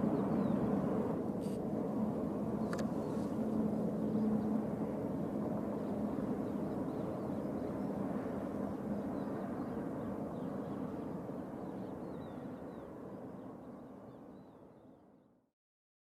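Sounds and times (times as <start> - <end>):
distant aircraft engines rumbling: 0.0 - 14.8.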